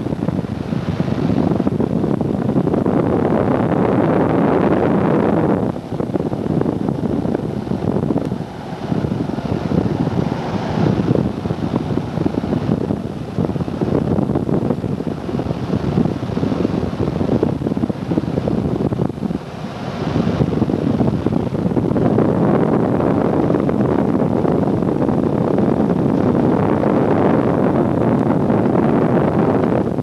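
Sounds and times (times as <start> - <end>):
airplane cabin engine roar: 0.0 - 30.0.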